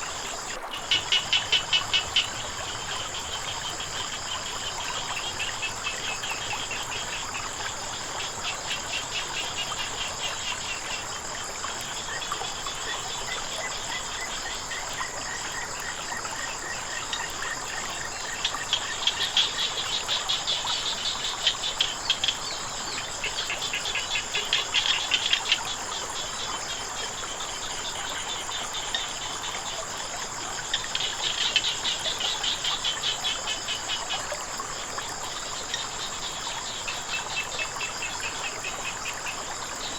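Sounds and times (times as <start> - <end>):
crickets and insects droning: 0.0 - 39.9
faint running water: 0.0 - 39.9
frogs calling: 0.0 - 39.9.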